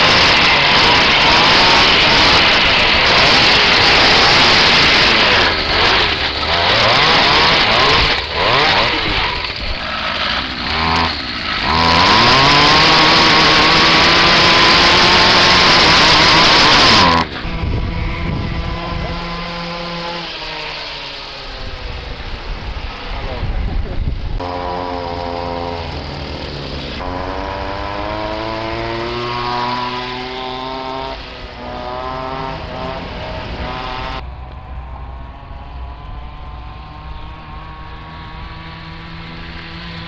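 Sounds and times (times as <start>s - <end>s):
two-stroke engine revving: 0.0s - 40.0s.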